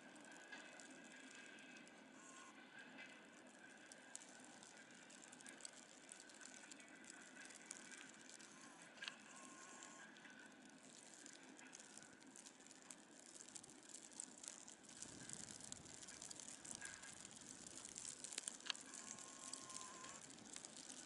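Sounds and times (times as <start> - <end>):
faint clicks: 0.2 - 21.0.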